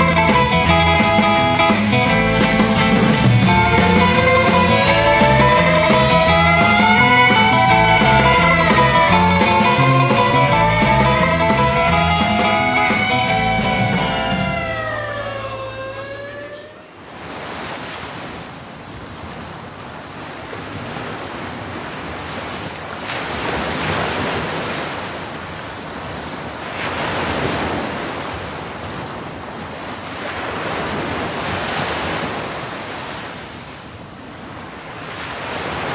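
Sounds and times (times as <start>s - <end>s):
ocean waves washing in: 0.0s - 35.9s.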